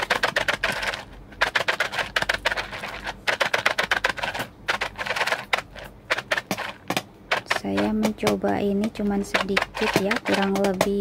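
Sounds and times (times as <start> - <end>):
beans rattling in plastic container: 0.0 - 11.0.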